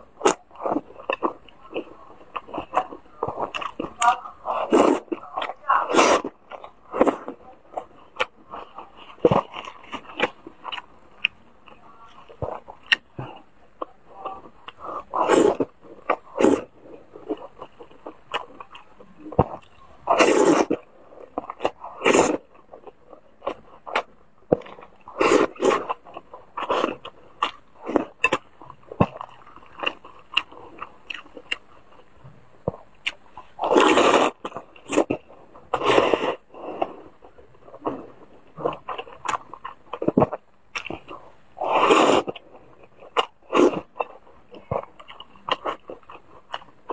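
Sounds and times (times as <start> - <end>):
noodles being slurped: 0.0 - 11.4, 12.4 - 31.6, 33.1 - 46.9
wet chewing and smacking: 0.0 - 46.9.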